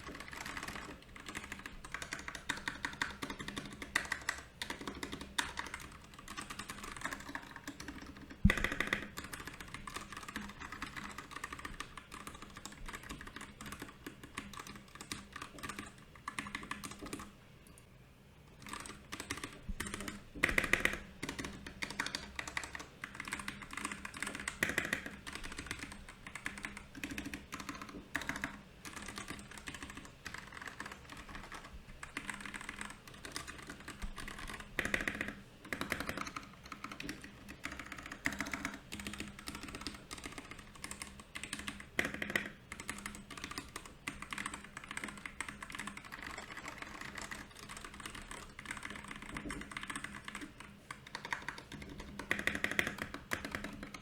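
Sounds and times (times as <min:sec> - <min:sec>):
mechanical keyboard typing: 0:00.0 - 0:17.4, 0:18.5 - 0:54.0.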